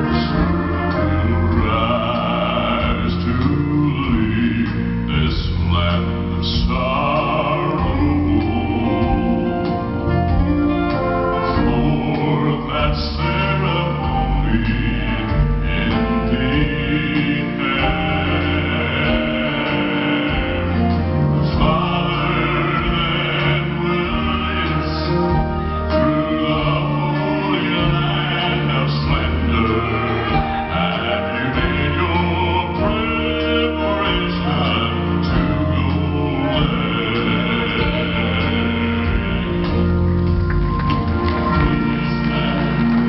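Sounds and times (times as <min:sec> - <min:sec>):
low bass notes: 0:00.0 - 0:43.0
male vocal ensemble singing harmony: 0:00.0 - 0:43.0.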